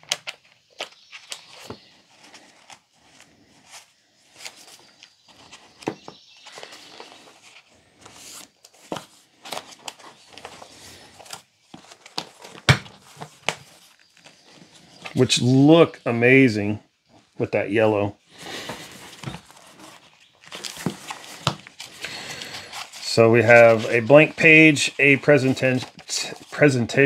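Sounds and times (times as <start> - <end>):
book pages rustling: 0.0 - 15.3, 18.4 - 27.0.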